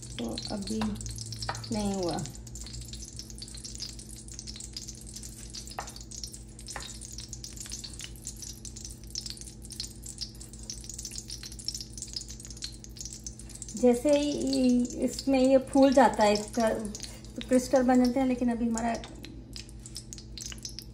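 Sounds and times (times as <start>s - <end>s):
ghee sizzling and crackling: 0.0s - 20.9s.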